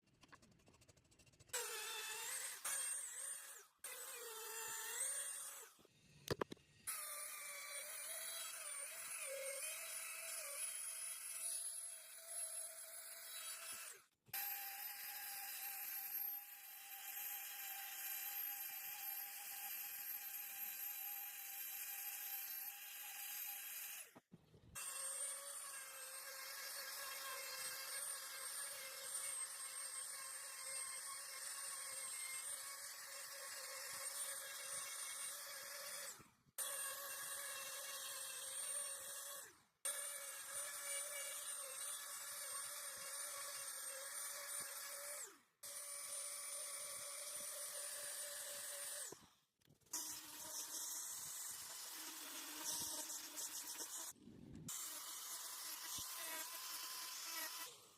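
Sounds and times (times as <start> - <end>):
small power tool whining: 1.5 - 57.9.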